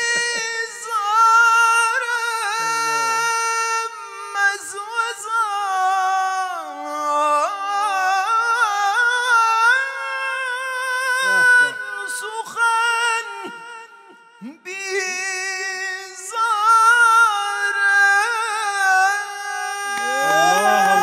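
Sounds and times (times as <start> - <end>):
man chanting melismatic recitation: 0.0 - 13.8, 14.4 - 21.0.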